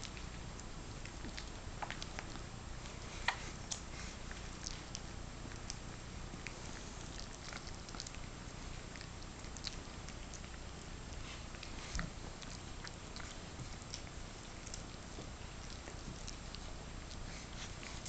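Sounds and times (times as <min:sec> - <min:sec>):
dog licking puppies wet clicks: 0:00.0 - 0:18.0.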